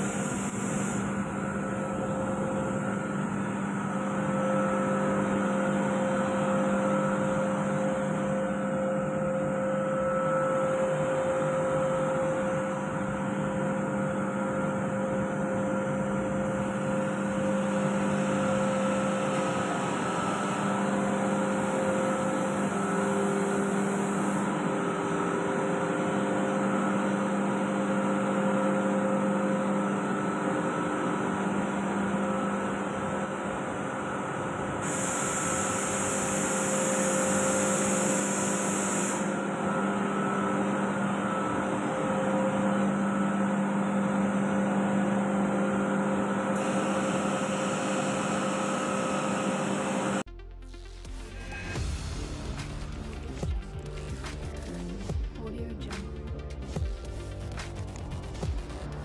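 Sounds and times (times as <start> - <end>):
air compressor running: 0.0 - 50.3.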